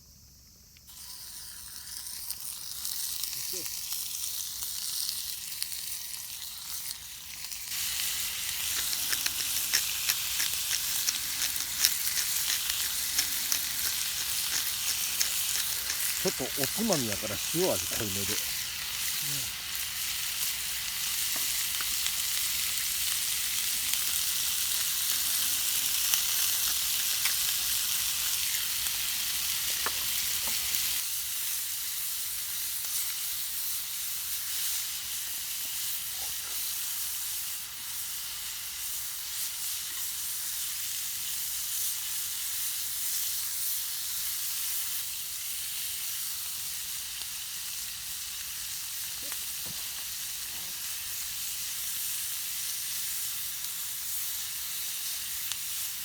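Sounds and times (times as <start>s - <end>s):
meat sizzling in a pan: 0.9s - 56.0s.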